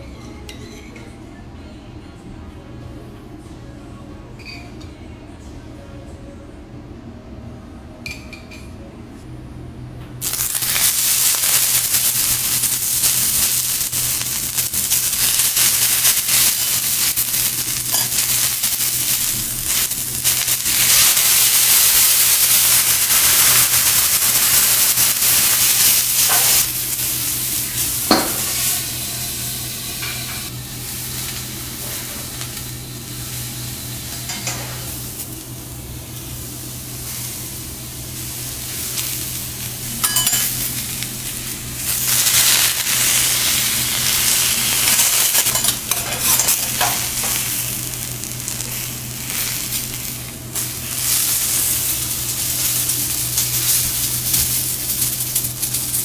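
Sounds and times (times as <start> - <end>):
lobster sizzling on a griddle: 10.2 - 56.0.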